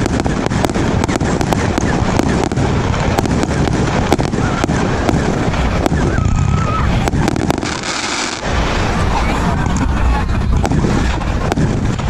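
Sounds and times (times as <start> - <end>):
rumble of bursting shells: 0.0 - 9.1, 10.4 - 12.0
firework cake firing: 0.0 - 9.6, 10.4 - 12.0.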